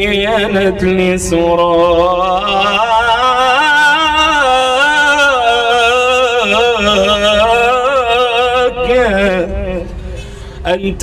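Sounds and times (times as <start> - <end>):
man singing devotional chant: 0.0 - 11.0.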